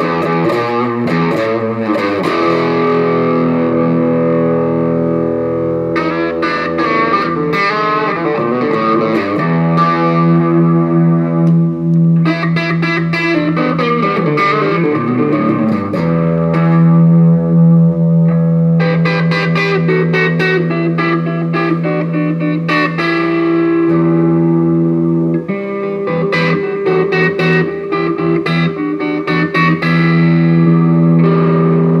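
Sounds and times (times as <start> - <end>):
electric guitar playing blues: 0.0 - 32.0.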